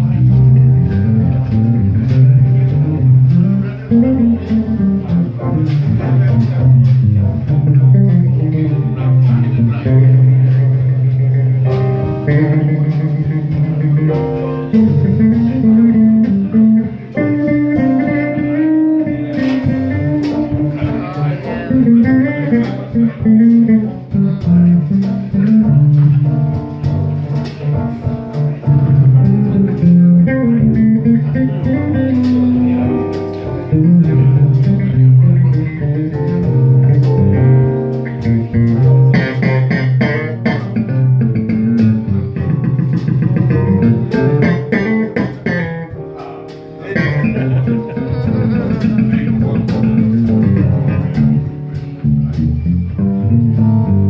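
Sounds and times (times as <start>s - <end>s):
electric bass lines: 0.0s - 54.0s.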